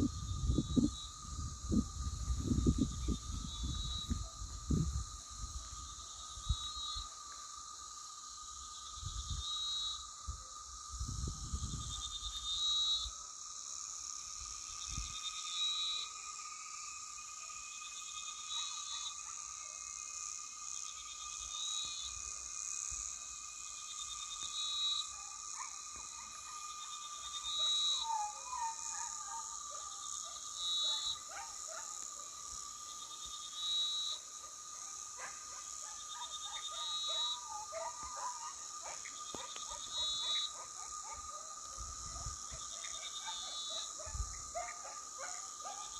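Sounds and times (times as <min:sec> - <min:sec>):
high-pitched insect drone: 0:00.0 - 0:45.9.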